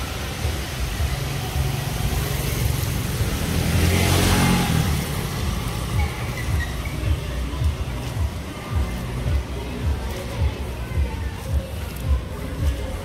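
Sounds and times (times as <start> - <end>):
vehicle passing on wet street: 0.0 - 13.0.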